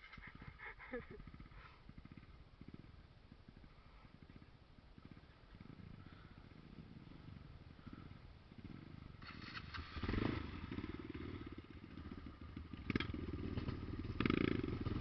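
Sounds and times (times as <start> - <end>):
faint motorcycle engine idling: 0.0 - 15.0.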